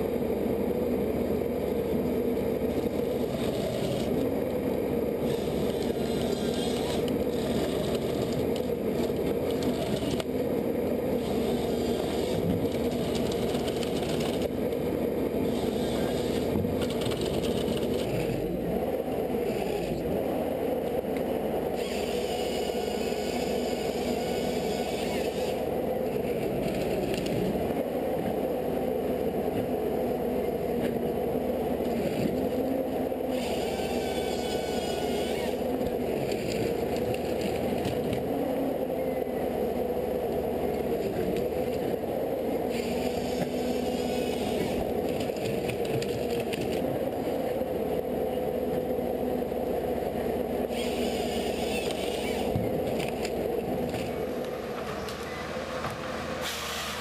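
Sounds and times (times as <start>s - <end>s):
high scraping whine: 0.0s - 57.0s
machine humming: 0.0s - 57.0s.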